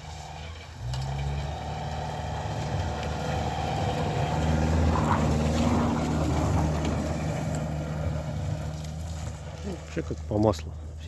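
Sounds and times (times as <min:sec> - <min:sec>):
car engine under load: 0:00.0 - 0:11.0.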